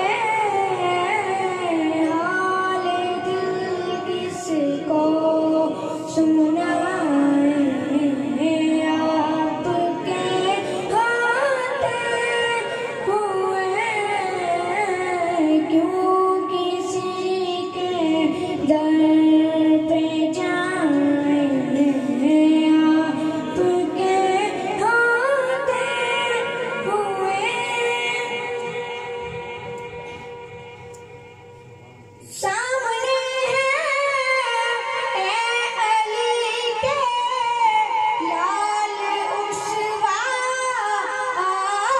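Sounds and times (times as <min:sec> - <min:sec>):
boy singing over a pa system: 0:00.0 - 0:41.9.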